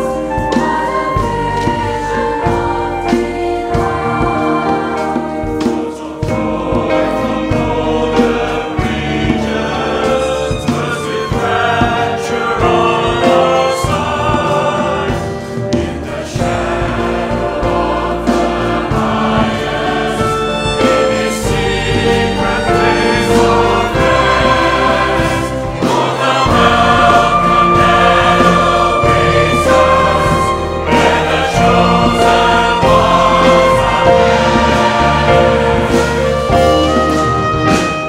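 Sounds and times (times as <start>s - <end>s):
mixed choir singing a hymn: 0.0s - 38.0s.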